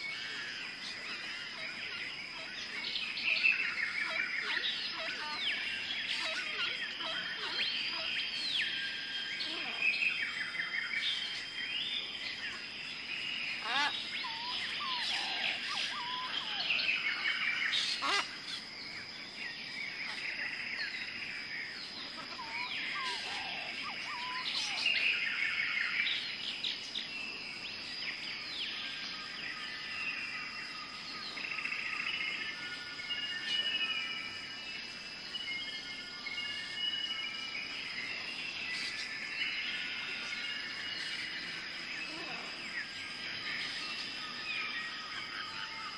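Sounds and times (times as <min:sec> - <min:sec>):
birds chirping and whistling: 0:00.0 - 0:45.9.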